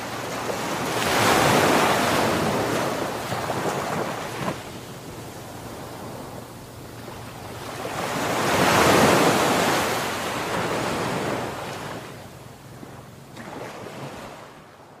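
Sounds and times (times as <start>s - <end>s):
waves breaking: 0.0s - 14.8s.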